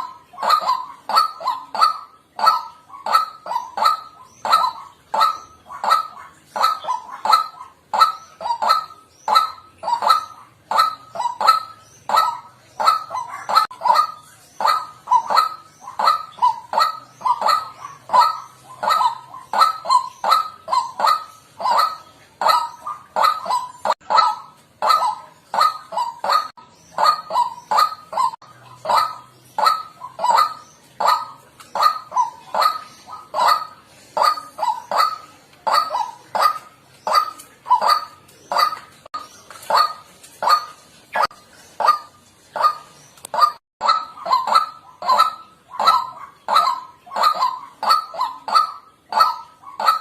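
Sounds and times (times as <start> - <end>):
waterhen harsh calls: 0.0 - 50.0.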